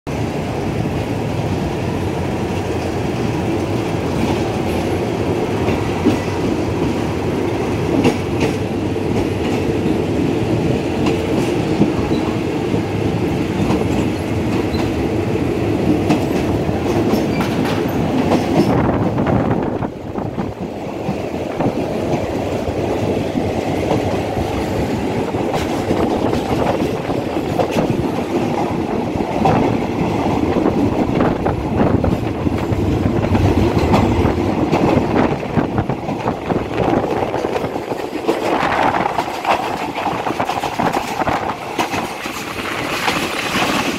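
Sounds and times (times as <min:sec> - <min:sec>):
train rumbling on track: 0:00.1 - 0:43.9.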